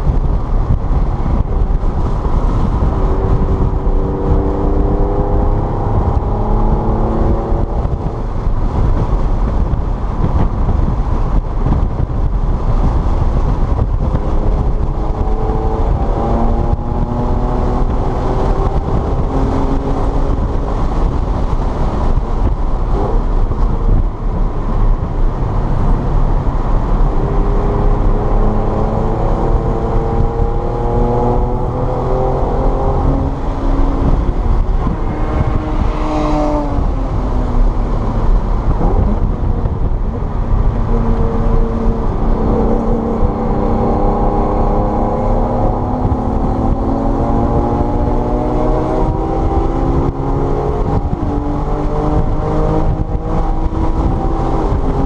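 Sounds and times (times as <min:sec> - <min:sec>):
car engine accelerating: 0:00.0 - 0:55.0
road and tyre rumble: 0:00.0 - 0:55.0.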